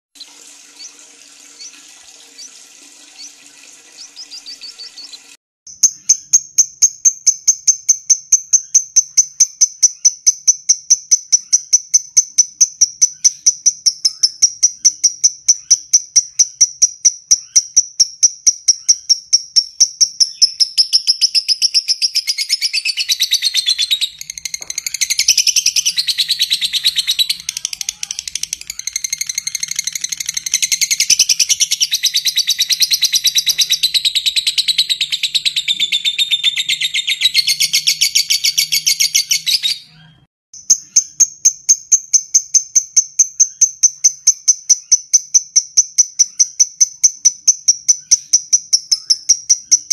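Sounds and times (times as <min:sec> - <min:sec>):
lovebird ticking chirps: 0:04.0 - 0:39.7, 0:40.6 - 0:49.9.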